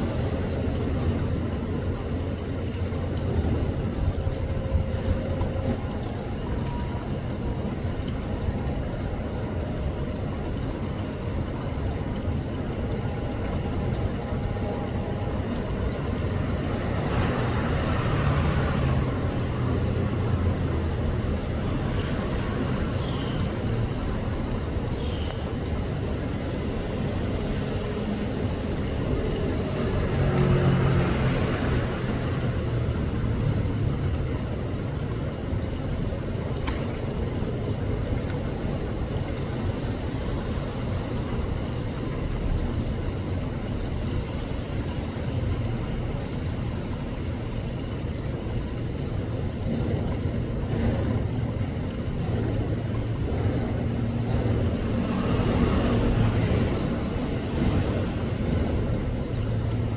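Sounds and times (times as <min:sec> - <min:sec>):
heavy rain: 0:00.0 - 0:59.9
wind: 0:00.0 - 0:59.9
wind rumbling on microphone: 0:00.0 - 0:59.9.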